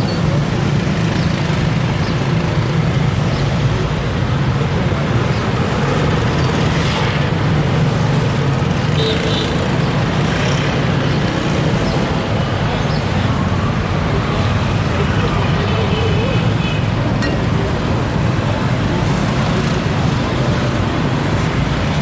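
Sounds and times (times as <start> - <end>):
motor traffic hum: 0.0 - 22.0
street market din: 0.0 - 22.0.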